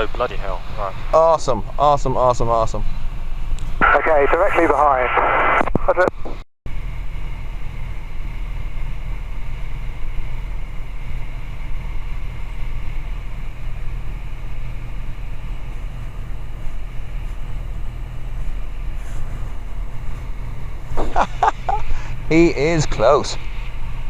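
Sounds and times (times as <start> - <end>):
aircraft engine and propeller drone: 0.0 - 5.1, 6.7 - 24.0.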